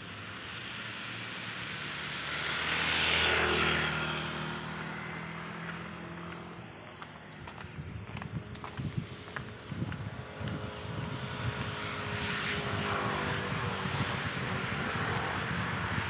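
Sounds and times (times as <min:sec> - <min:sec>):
vehicle engine hum passing: 0:00.0 - 0:16.0.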